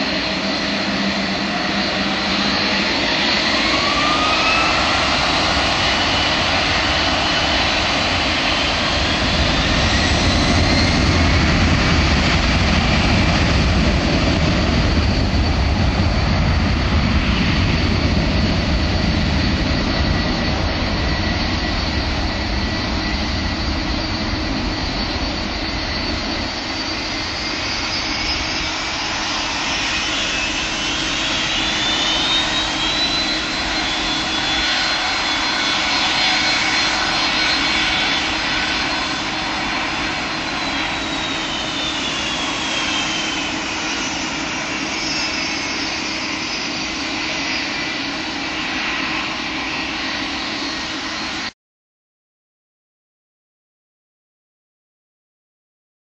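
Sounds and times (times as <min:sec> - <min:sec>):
whining engine tones: 0:00.0 - 0:51.4
jet engines at takeoff thrust: 0:00.0 - 0:51.6.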